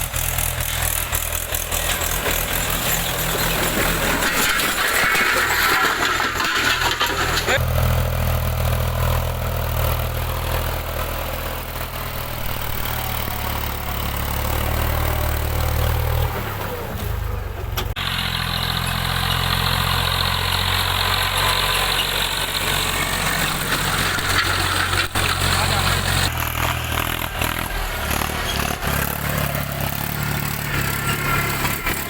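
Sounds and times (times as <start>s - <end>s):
diesel tractor engine droning: 0.0s - 32.0s.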